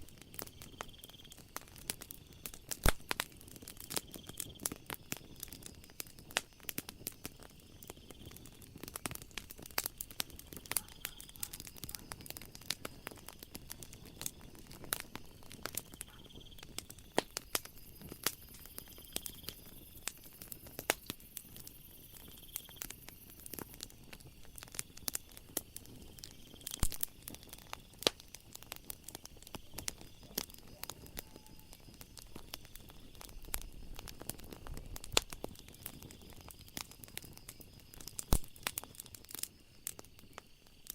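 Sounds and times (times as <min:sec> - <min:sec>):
fire crackling: 0:00.0 - 0:40.9
night insects chirring: 0:00.1 - 0:40.9.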